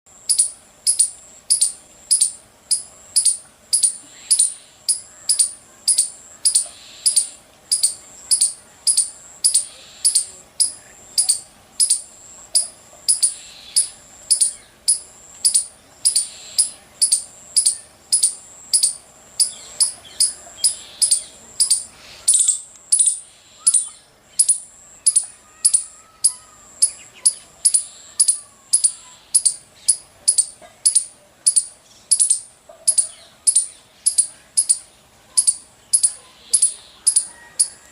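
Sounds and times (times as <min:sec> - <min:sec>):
squirrel chirping: 0:00.2 - 0:37.8.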